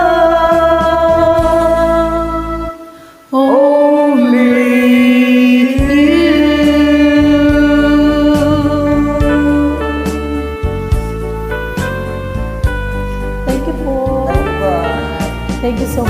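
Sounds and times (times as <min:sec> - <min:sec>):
karaoke backing band: 0:00.0 - 0:02.8, 0:04.1 - 0:16.0
person singing: 0:00.0 - 0:12.0, 0:13.0 - 0:16.0.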